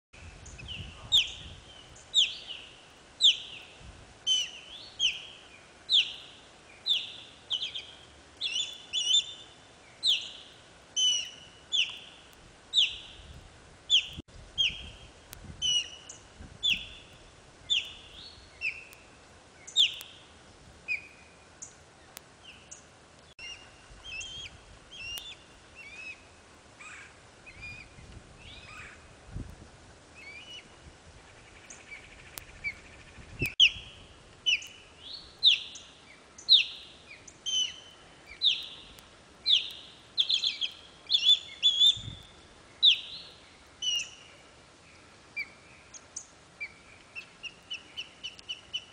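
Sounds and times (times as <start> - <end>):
osprey calling: 0.4 - 29.2, 30.2 - 48.9.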